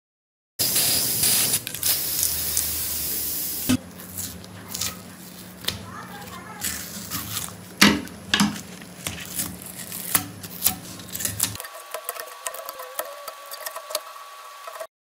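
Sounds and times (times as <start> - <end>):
masking tape peeling and tearing: 0.6 - 14.9.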